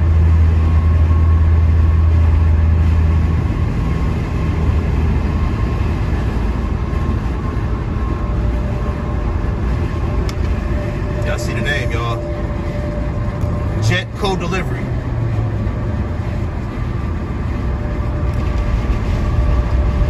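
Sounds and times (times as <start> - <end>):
car road noise: 0.0 - 20.0
deep low drone: 0.0 - 20.0.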